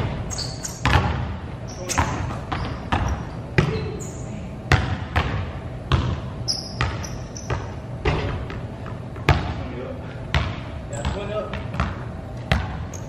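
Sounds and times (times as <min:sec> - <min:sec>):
sneaker squeaks: 0:00.0 - 0:09.6, 0:10.4 - 0:13.0
basketball bouncing on gym floor: 0:00.0 - 0:13.0.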